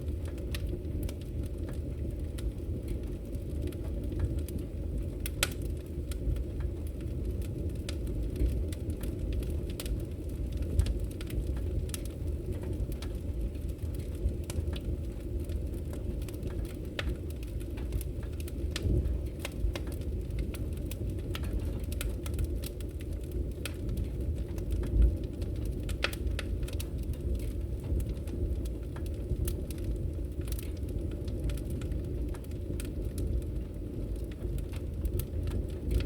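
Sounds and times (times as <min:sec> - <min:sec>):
fire flames rumbling: 0:00.0 - 0:36.0
firewood crackling and popping: 0:00.0 - 0:36.0.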